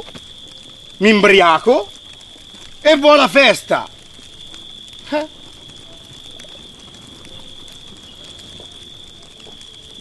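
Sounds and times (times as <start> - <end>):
campfire crackling: 0.0 - 10.0
night insects droning: 0.0 - 10.0.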